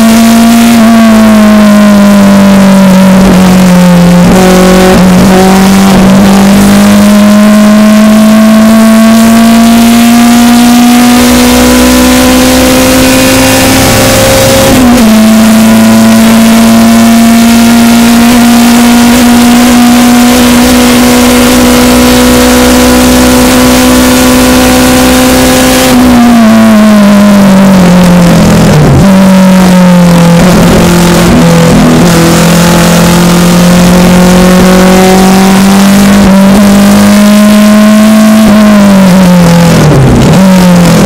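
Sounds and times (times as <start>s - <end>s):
engine throttle blips: 0.0s - 41.0s
race car engine at full throttle: 0.0s - 41.0s.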